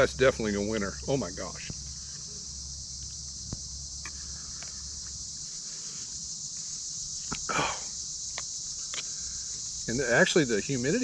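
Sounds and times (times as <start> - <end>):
crickets and insects chirring: 0.0 - 11.0
low background hum: 0.0 - 11.0.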